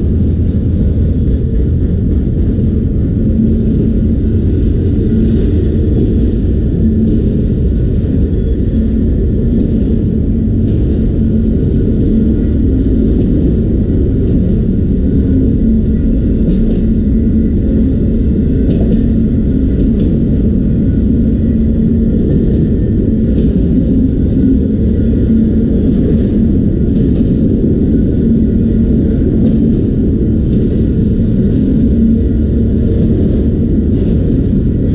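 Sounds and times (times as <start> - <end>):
freight train rumble: 0.0 - 34.9
low engine drone: 0.0 - 34.9.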